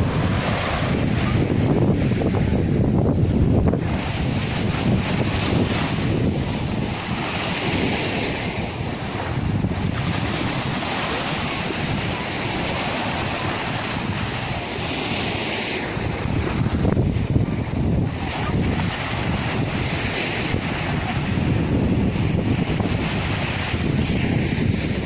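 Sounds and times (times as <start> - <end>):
sea waves breaking: 0.0 - 25.0
wind rumbling on microphone: 0.0 - 25.0.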